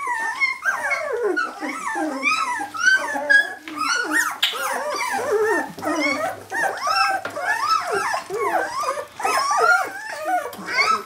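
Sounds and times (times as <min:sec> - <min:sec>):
puppies whining: 0:00.0 - 0:11.0.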